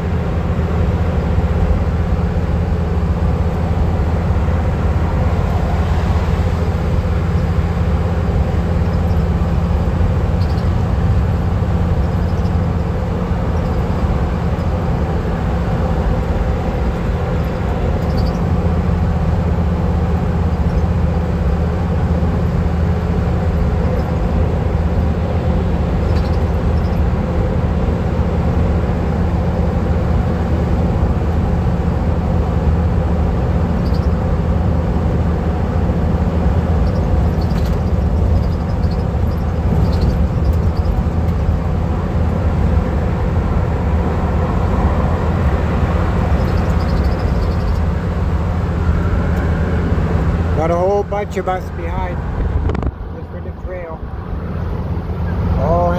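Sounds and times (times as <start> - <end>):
van engine and road drone: 0.0 - 55.9.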